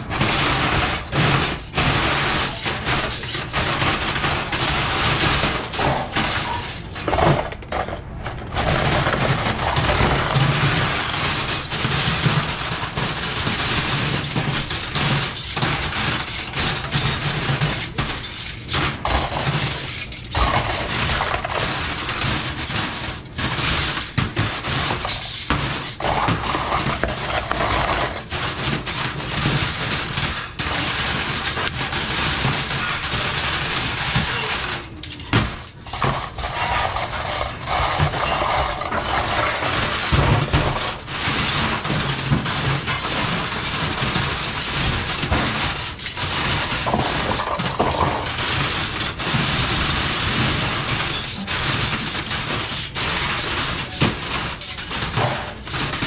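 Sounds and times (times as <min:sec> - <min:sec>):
cutlery clinking and clattering: 0:00.0 - 0:56.0.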